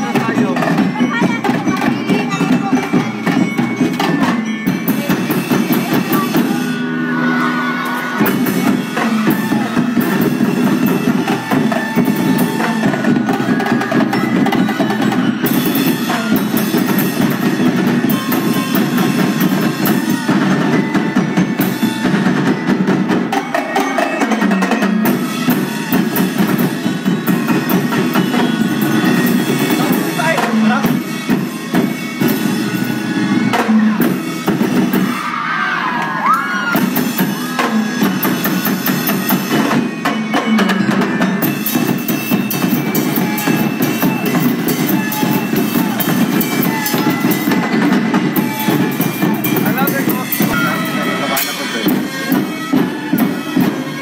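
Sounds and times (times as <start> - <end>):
drum-led street-dance music: 0.0 - 54.0.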